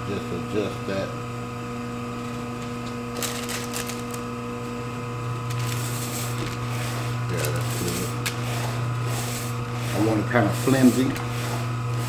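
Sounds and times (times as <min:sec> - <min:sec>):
meat slicer motor hum: 0:00.0 - 0:12.0.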